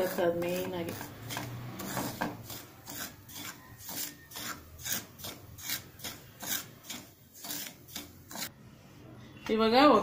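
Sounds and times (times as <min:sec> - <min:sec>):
spatula scraping semolina in pan: 0:00.0 - 0:08.6.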